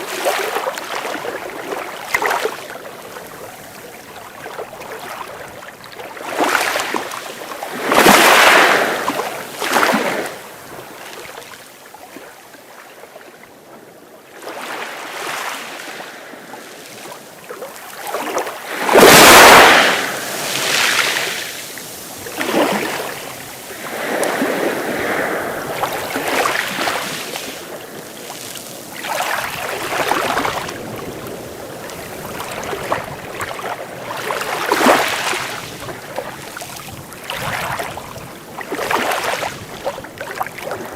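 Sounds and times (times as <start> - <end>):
sea waves breaking: 0.0 - 12.2, 14.3 - 40.9.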